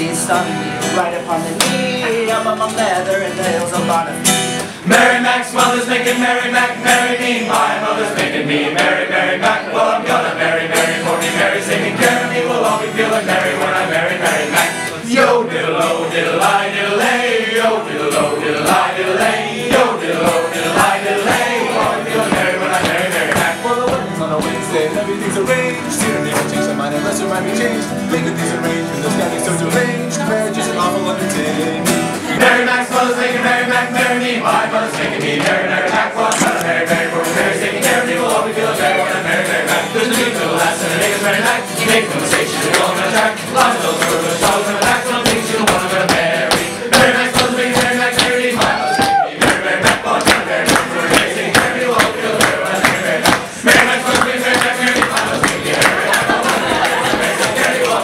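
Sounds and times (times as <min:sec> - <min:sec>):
men singing in unison: 0:00.0 - 0:58.0
strummed acoustic guitar: 0:00.0 - 0:58.0.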